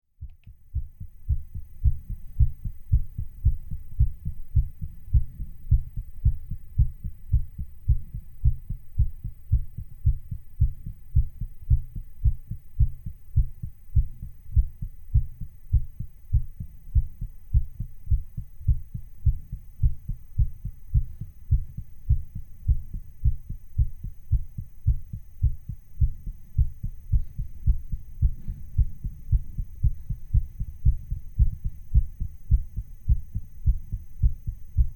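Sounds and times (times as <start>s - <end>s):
heartbeat thuds: 0.2s - 34.9s.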